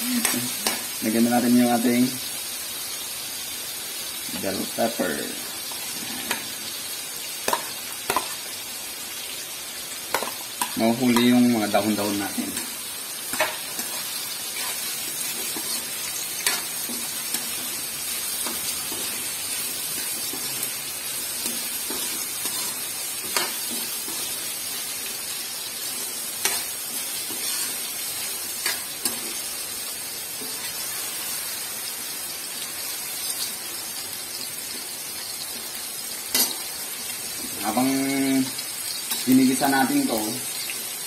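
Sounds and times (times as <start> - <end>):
meat and vegetables sizzling in oil: 0.0 - 41.0.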